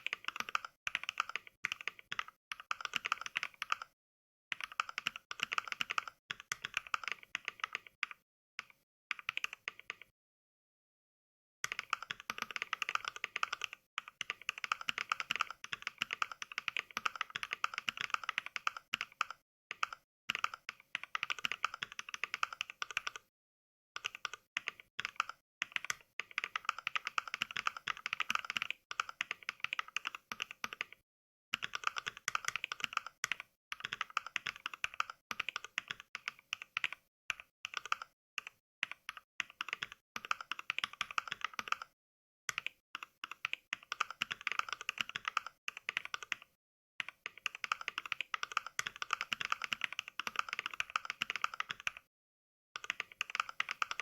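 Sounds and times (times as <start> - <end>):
mechanical keyboard typing: 0.0 - 10.1, 11.6 - 23.3, 24.0 - 31.0, 31.6 - 52.1, 52.8 - 54.0.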